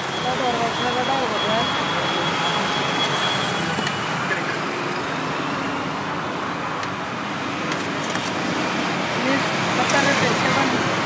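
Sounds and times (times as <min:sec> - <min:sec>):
roadside traffic noise: 0:00.0 - 0:11.0.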